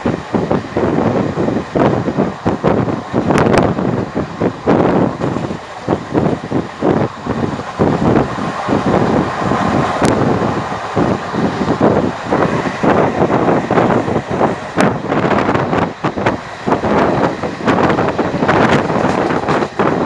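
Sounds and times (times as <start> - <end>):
train wheels and coach rattling: 0.0 - 20.0
wind buffeting microphone: 0.0 - 20.0.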